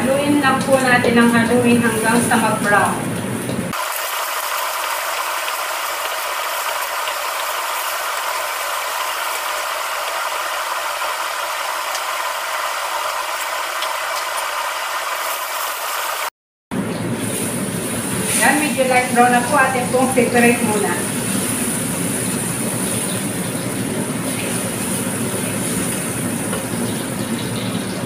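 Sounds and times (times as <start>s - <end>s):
vegetables sizzling in oil: 0.0s - 16.3s, 17.1s - 28.0s.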